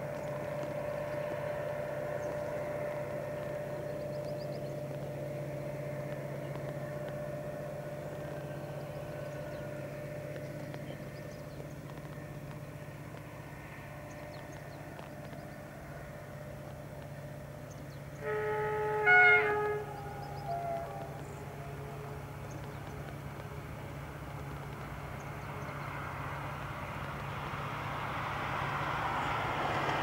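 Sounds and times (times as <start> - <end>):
distant diesel locomotive drone: 0.0 - 30.0
steady engine whine: 0.0 - 30.0.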